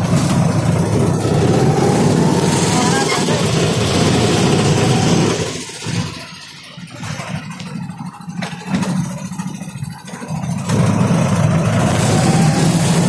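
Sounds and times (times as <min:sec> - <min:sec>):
auto-rickshaw motor hum: 0:00.0 - 0:13.0
road noise: 0:00.0 - 0:13.0.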